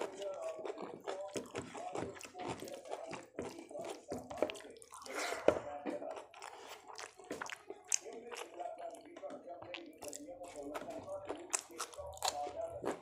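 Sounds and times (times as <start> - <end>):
chewing with moist smacks: 0.0 - 13.0
fingers mixing food on a plate: 0.0 - 13.0.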